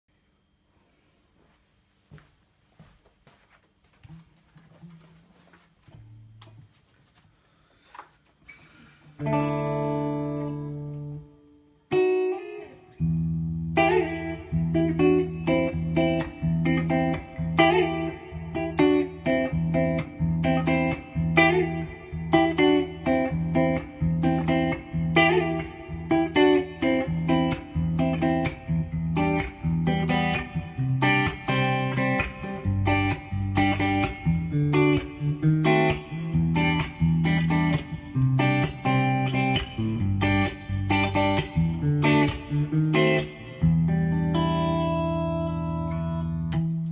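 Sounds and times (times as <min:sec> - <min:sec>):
electric guitar chords: 0:09.1 - 0:46.9.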